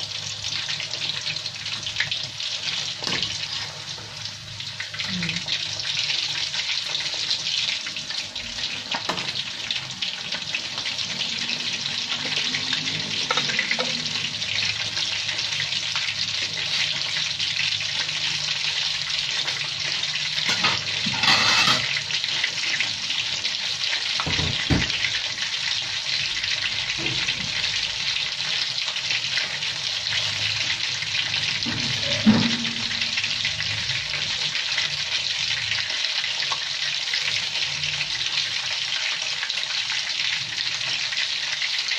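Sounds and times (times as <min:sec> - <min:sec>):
chicken frying in oil: 0:00.0 - 0:41.9.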